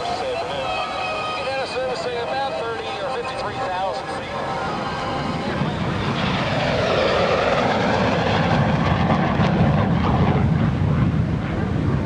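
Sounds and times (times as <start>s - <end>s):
jet fighter roaring past: 0.0s - 12.0s.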